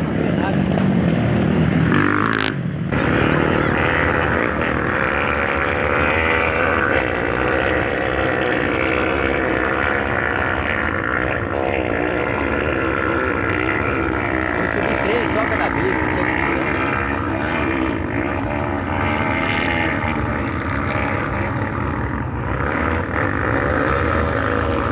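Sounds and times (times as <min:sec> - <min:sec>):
dirt bikes revving: 0:00.0 - 0:24.9.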